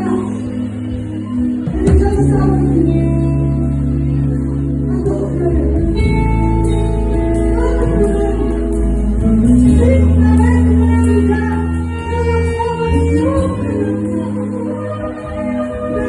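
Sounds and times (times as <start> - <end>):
deep bass: 0.0 - 16.0
worship music with singing: 0.0 - 16.0.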